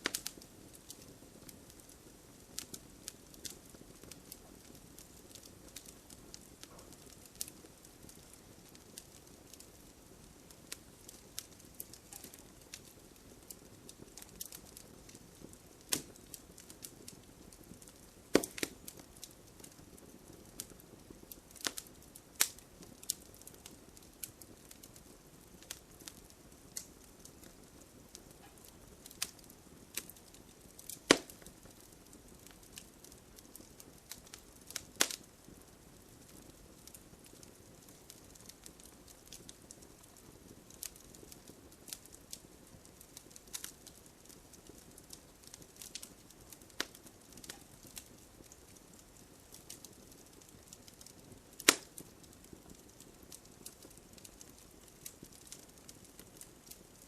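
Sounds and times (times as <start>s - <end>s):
fire pops and snaps: 0.0s - 57.0s
low steady fire hiss: 0.0s - 57.0s.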